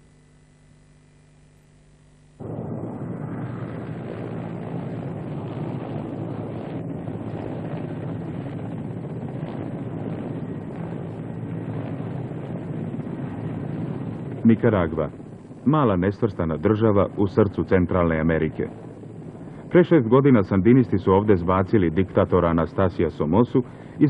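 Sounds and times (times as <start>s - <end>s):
faint steady hum: 0.0s - 24.0s
helicopter rumble inside cabin: 2.4s - 24.0s.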